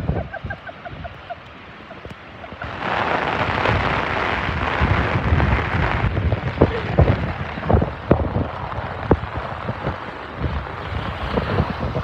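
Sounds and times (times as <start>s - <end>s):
heavy rain pouring: 0.0s - 12.0s
wind buffeting microphone: 0.0s - 12.0s.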